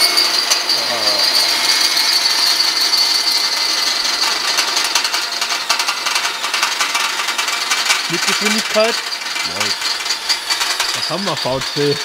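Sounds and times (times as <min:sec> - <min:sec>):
drill whining through metal: 0:00.0 - 0:12.0
rattling chatter: 0:00.2 - 0:12.0.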